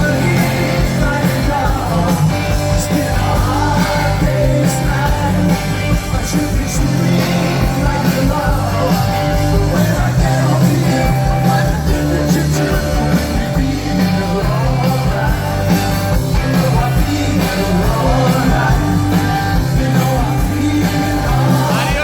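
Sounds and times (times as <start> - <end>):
person singing: 0.0 - 15.7, 16.3 - 22.0
live rock band: 0.0 - 22.0.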